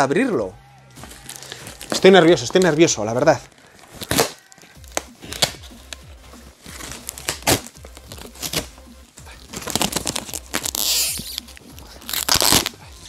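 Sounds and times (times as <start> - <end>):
plastic wrap crinkling: 1.0 - 13.0.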